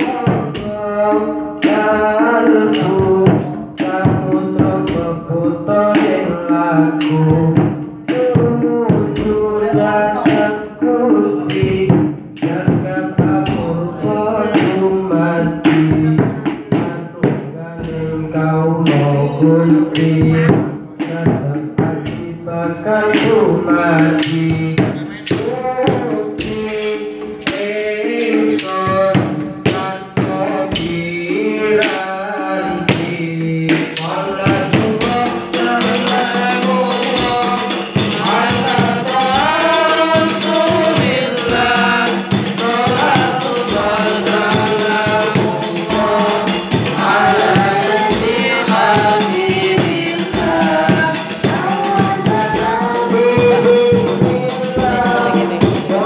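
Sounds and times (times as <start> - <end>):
devotional singing through microphones: 0.0 - 56.0
hand percussion beats: 0.0 - 56.0.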